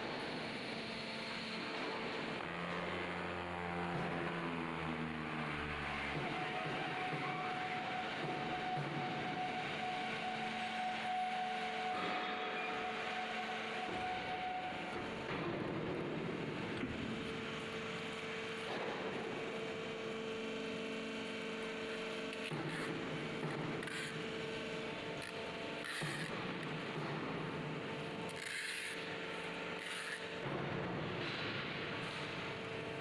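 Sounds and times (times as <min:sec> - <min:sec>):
machine whine: 0:00.0 - 0:33.0.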